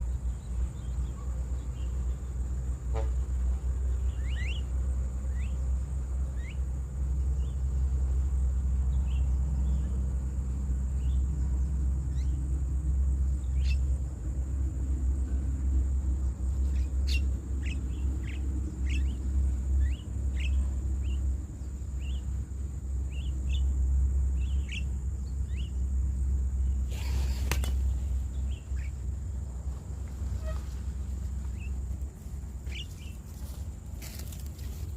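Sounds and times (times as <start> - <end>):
birds chirping: 0.0 - 8.2, 13.2 - 14.2, 15.3 - 34.9.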